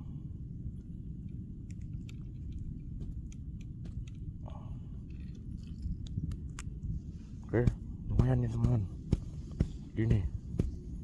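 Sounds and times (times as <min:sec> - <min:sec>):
low microphone rumble: 0:00.0 - 0:11.0.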